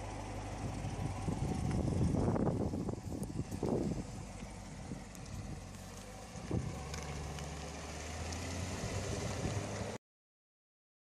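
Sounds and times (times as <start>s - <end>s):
car engine rolling past: 0.0s - 10.0s.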